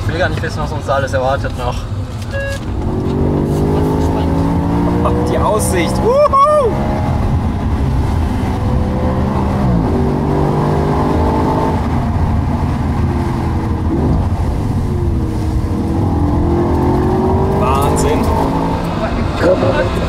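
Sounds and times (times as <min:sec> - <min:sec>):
car engine pulling uphill: 0:00.0 - 0:20.0.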